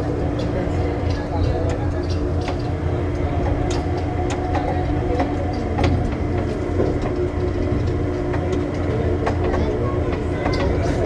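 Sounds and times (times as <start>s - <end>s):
clicks and knocks from train car: 0.0s - 11.0s
train low rumble: 0.0s - 11.0s.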